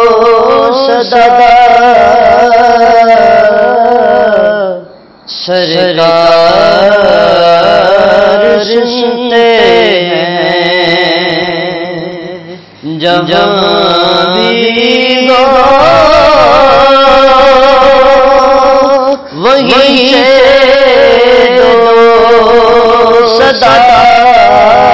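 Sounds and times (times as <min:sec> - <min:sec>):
man singing devotional song: 0:00.0 - 0:24.9.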